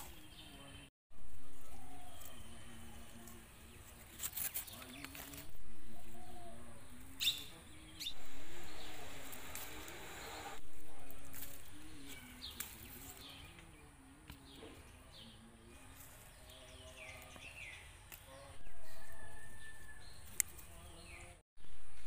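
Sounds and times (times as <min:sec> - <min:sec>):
small birds chirping: 0:00.0 - 0:21.4
outdoor background noise: 0:00.0 - 0:22.0.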